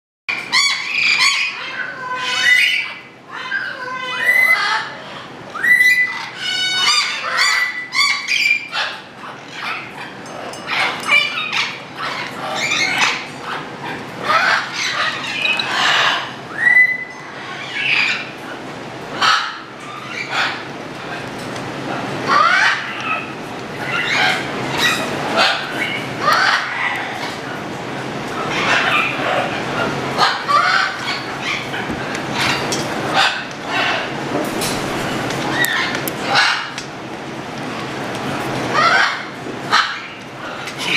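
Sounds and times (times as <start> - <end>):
parrots squawking and screeching: 0.3 - 36.9, 38.4 - 40.9.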